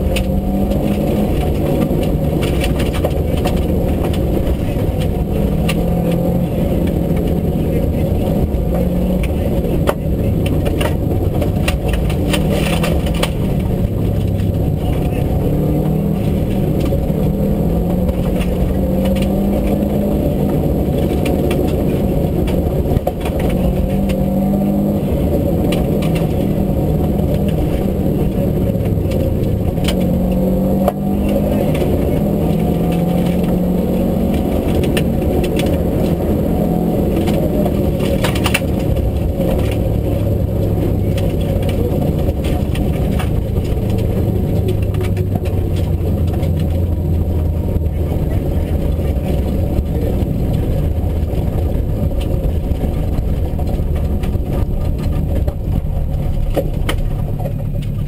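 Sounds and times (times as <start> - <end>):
gravel hitting car: 0.0 - 58.0
rally car engine revving: 0.0 - 58.0.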